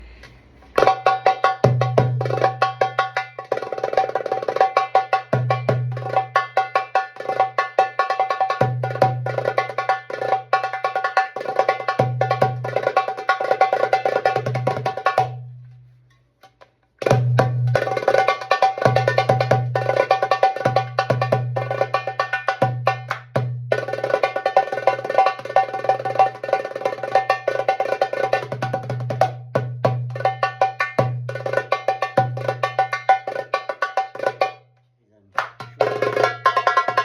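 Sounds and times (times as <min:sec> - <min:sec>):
hand drum fast rolls: 0:00.8 - 0:15.4, 0:17.0 - 0:34.6, 0:35.4 - 0:37.0.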